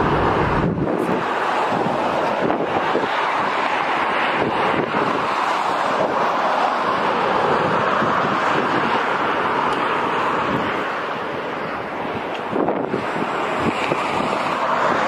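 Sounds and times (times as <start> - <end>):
wind rushing: 0.0 - 15.0.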